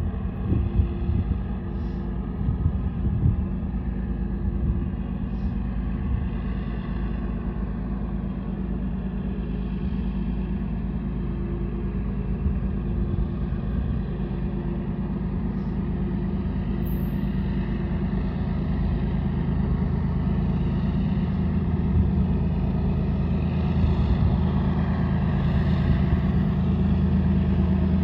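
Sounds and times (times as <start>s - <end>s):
diesel locomotives working hard: 0.0s - 28.0s.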